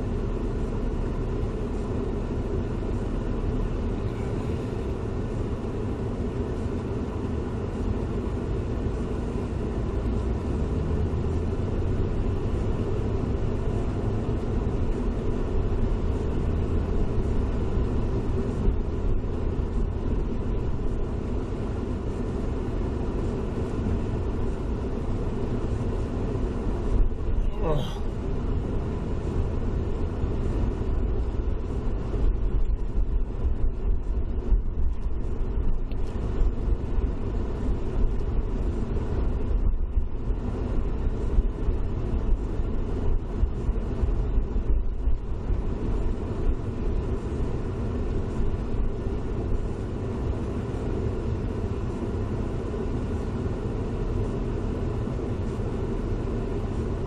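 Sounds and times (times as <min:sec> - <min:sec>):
tyres and engine rumble: 0:00.0 - 0:57.0.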